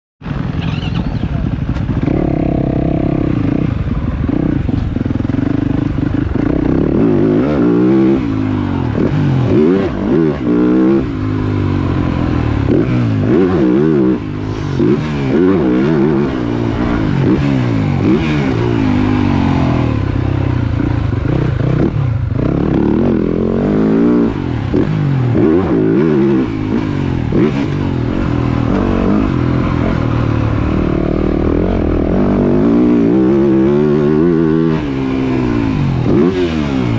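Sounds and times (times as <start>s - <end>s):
motorbike engine revving: 0.2s - 36.9s.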